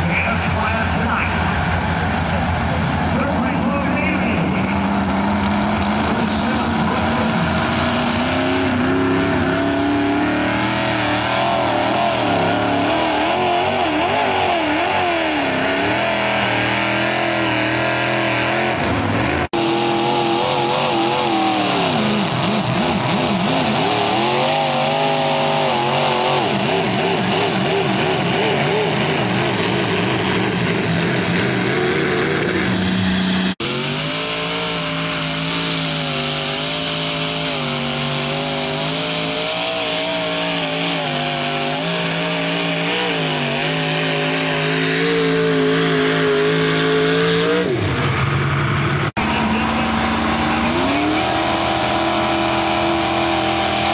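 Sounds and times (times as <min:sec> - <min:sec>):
tractor engines running under load: 0:00.0 - 0:53.9.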